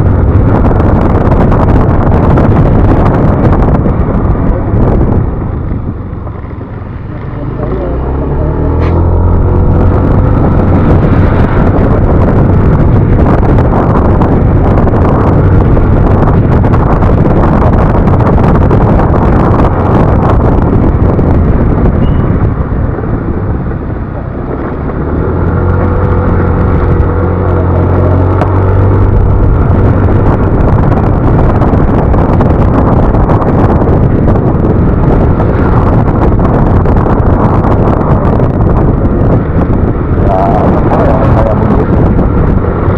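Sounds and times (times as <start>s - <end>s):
scooter engine drone: 0.0s - 42.9s
wind rush on microphone: 0.0s - 42.9s.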